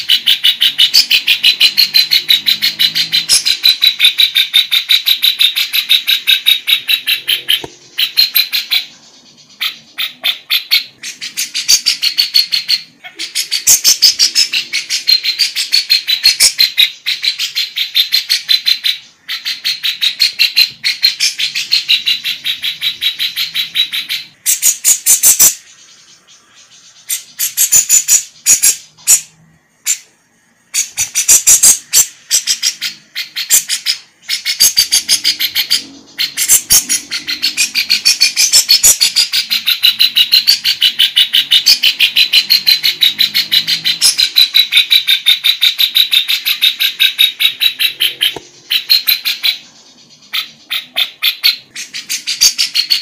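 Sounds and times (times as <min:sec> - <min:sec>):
lovebird chattering song: 0:00.0 - 0:53.0.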